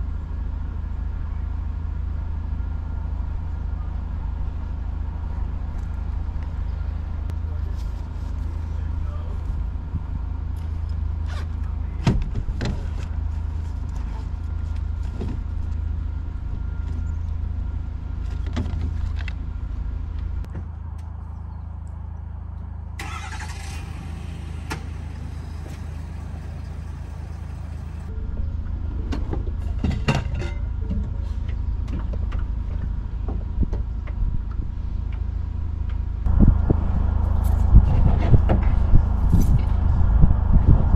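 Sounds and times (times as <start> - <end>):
low engine hum: 0.0 - 40.9.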